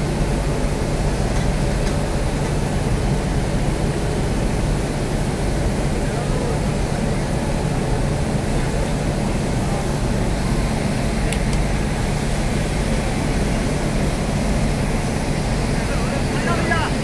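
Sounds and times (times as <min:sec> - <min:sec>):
locomotive blowers humming: 0:00.0 - 0:17.0.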